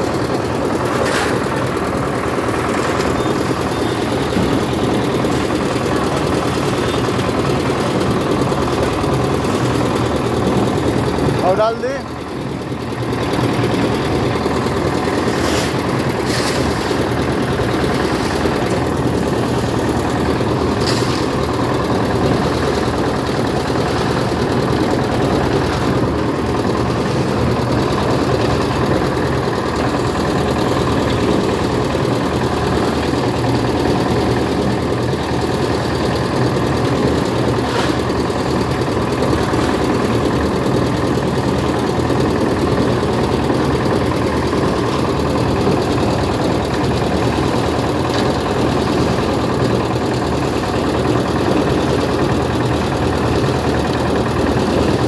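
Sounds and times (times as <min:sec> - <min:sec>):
heavy engine idling: 0:00.0 - 0:55.0.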